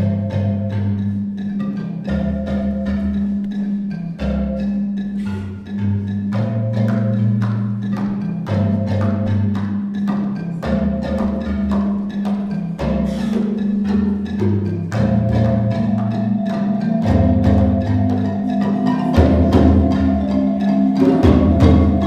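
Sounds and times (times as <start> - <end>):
hand drums: 0.0 - 22.0
marimbas playing: 0.0 - 22.0.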